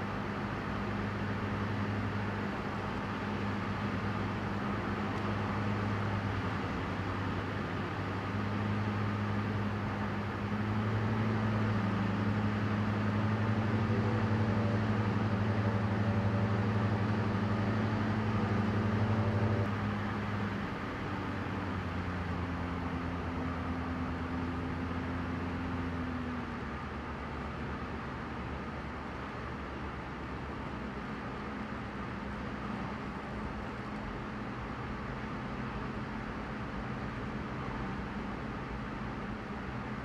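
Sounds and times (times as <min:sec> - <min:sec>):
light aircraft engine droning: 0:00.0 - 0:40.0.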